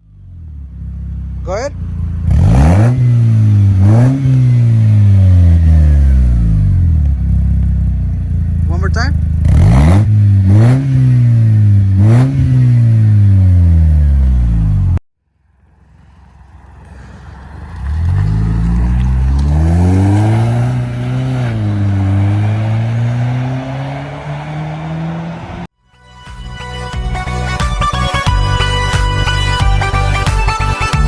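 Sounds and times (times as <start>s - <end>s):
car engine revving: 0.1s - 15.0s, 15.6s - 25.7s.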